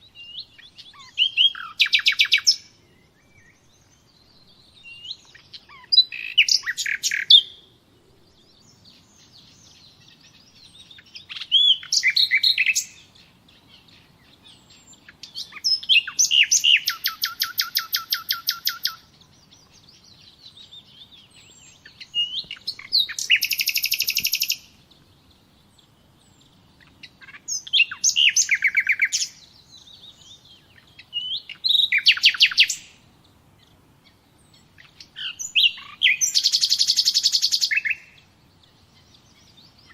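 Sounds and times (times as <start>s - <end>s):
faint bird chirps: 0.0s - 39.9s
songbird singing trills: 0.0s - 39.9s.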